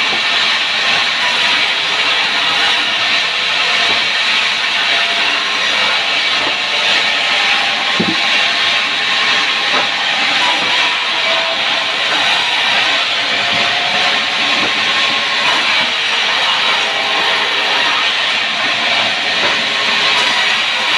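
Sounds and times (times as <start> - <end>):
power saw cutting wood: 0.0 - 20.9.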